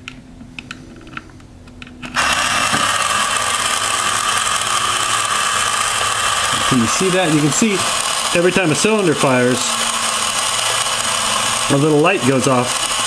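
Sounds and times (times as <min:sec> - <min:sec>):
model engine whirring: 0:01.9 - 0:13.0.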